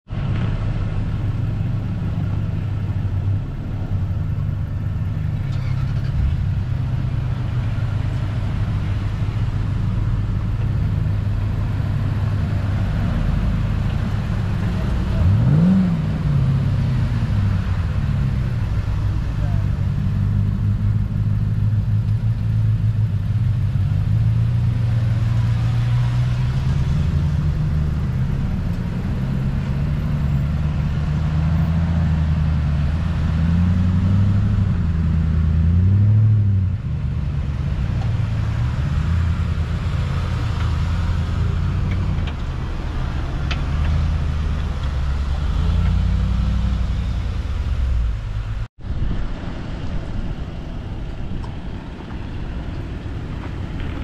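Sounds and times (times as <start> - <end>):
off-road vehicle engines revving: 0.1 - 54.0.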